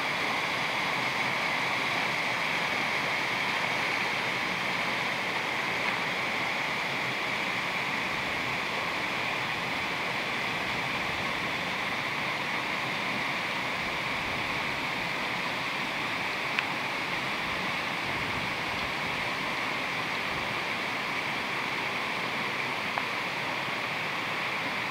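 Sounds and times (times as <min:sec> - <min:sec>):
stream rushing over stones: 0:00.0 - 0:24.9.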